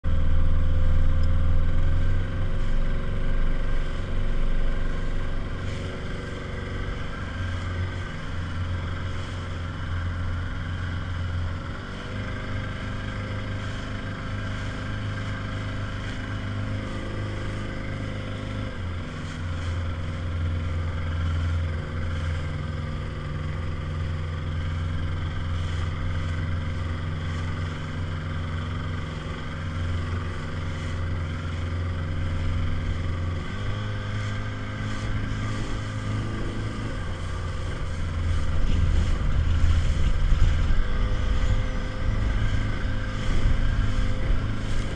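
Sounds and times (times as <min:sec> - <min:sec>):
outboard engine running: 0:00.0 - 0:44.9.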